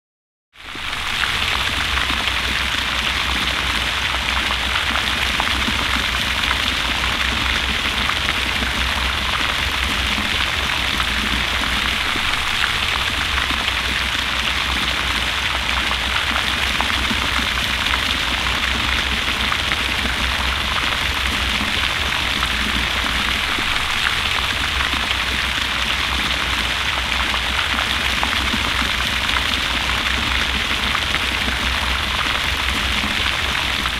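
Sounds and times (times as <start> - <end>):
fountain spray splashing: 0.6 - 33.9
low steady rumble: 0.7 - 33.9.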